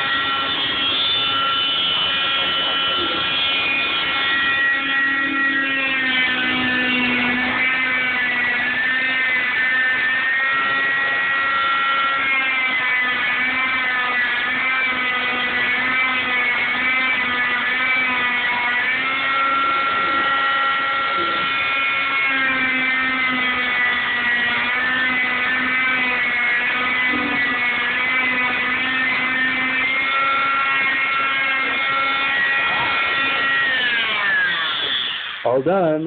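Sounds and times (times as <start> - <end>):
cast saw whining: 0.0 - 36.0.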